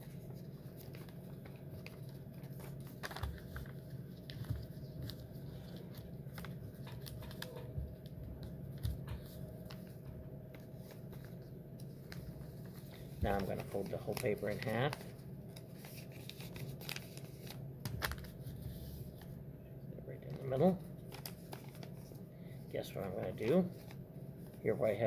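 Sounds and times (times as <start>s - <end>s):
paper crinkling and rustling: 0.0s - 19.4s, 20.2s - 22.2s, 22.8s - 25.0s
low room hum: 0.0s - 25.0s.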